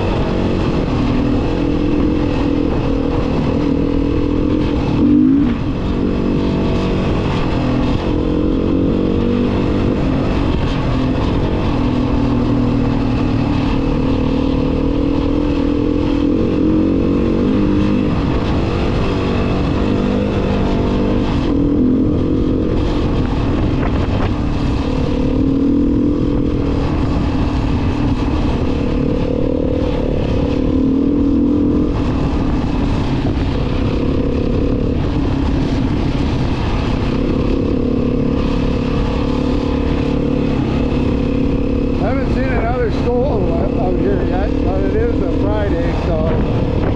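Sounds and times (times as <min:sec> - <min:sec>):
steady rushing noise: 0:00.0 - 0:46.9
vehicle engine running: 0:00.0 - 0:46.9.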